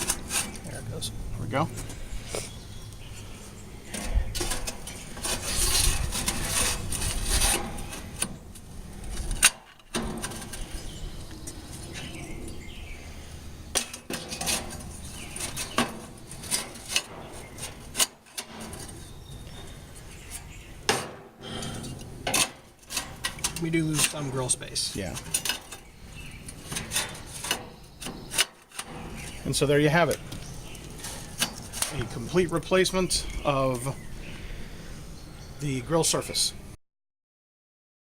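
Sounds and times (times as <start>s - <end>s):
metal grill grates scraping: 0.0s - 33.9s.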